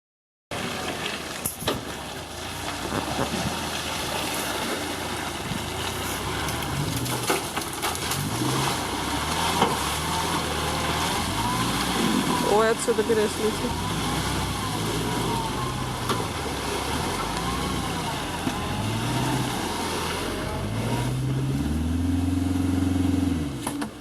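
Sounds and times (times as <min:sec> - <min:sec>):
wheels splashing through water: 0:00.5 - 0:24.0
car engine revving: 0:02.8 - 0:24.0.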